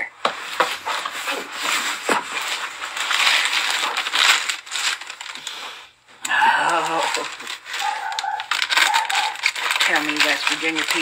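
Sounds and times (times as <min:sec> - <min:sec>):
crinkling and crackling handling noise: 0:00.0 - 0:11.0.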